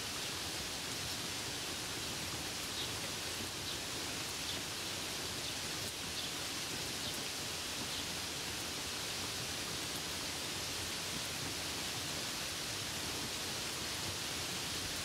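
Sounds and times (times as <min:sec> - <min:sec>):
rain falling on leaves: 0:00.0 - 0:15.0.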